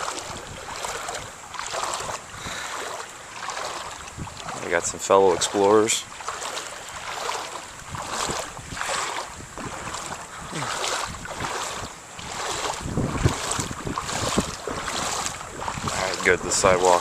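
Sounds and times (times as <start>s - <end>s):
wading through water: 0.0s - 17.0s
wind buffeting microphone: 0.0s - 17.0s.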